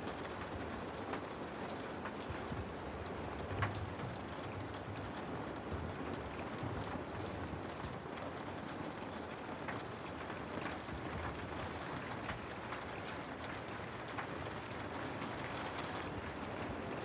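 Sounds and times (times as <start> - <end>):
raindrops ticking: 0.0 - 17.0
steady rain hiss: 0.0 - 17.0.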